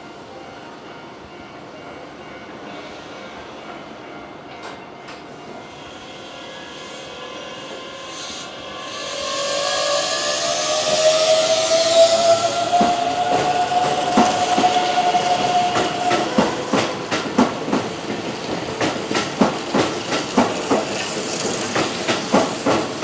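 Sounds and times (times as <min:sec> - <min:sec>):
low steady train hum: 0:00.0 - 0:23.0.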